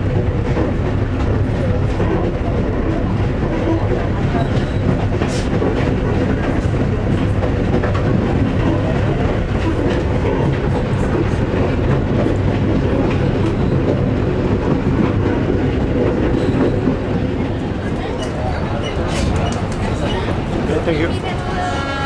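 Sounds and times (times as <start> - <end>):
train rumbling along track: 0.0 - 22.0.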